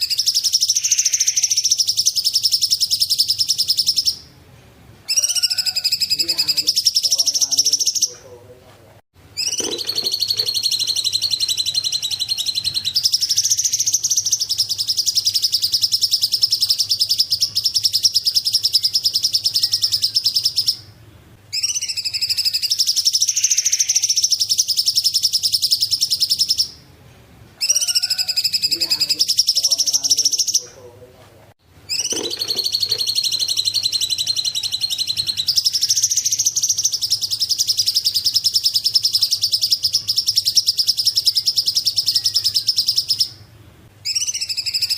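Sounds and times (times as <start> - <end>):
bird high rapid trill: 0.0 - 4.3, 5.1 - 8.1, 9.4 - 20.9, 21.5 - 26.8, 27.6 - 30.6, 31.9 - 43.4.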